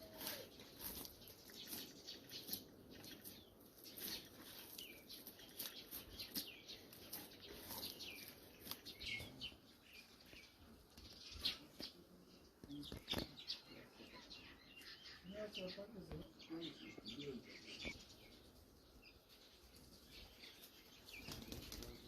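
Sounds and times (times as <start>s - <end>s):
birds chirping faintly: 0.0s - 22.0s.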